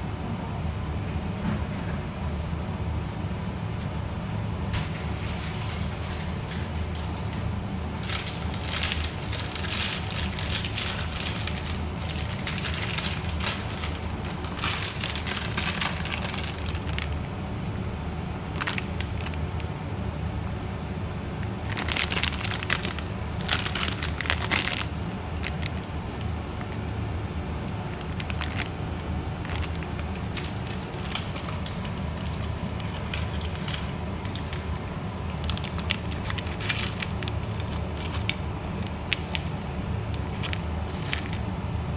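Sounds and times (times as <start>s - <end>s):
water boiling in pot: 3.4s - 41.9s
plastic bag crinkling: 4.9s - 17.3s, 18.4s - 19.7s, 21.5s - 41.6s.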